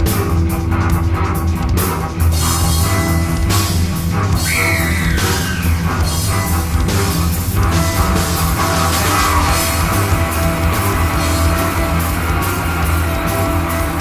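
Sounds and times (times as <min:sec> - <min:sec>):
rock music: 0:00.0 - 0:14.0.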